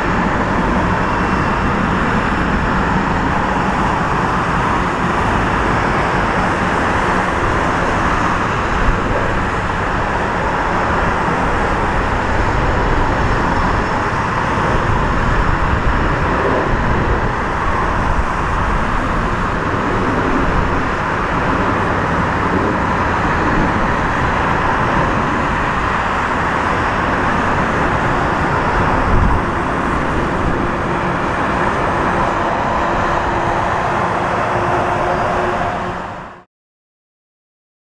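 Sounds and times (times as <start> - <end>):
jet engines at taxi thrust: 0.0 - 36.5.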